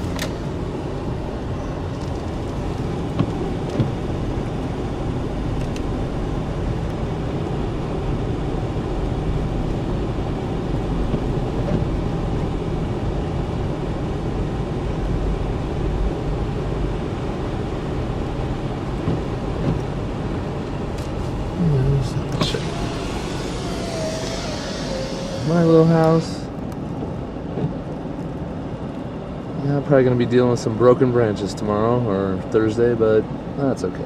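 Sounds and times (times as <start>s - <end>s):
engine and tyre rumble: 0.0s - 34.0s.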